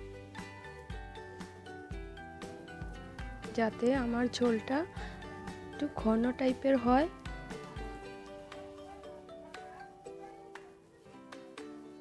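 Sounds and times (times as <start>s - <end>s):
soft mallet percussion music: 0.0s - 12.0s.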